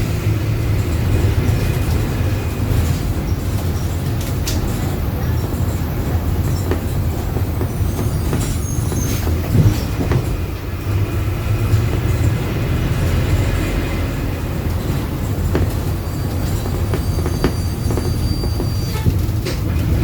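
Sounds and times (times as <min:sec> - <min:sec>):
drivetrain rumble inside bus: 0:00.0 - 0:20.0
body rattles and knocks: 0:00.4 - 0:20.0.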